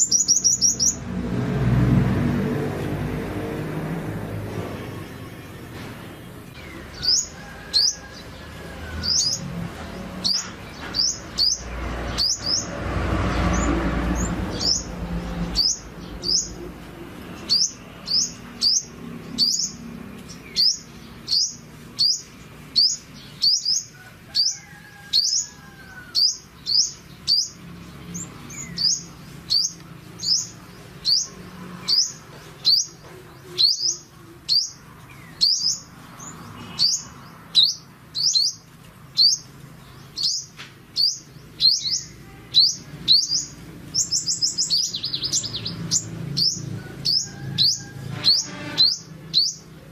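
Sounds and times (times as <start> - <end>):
sunbird chirping: 0.0 - 1.2, 4.7 - 49.9.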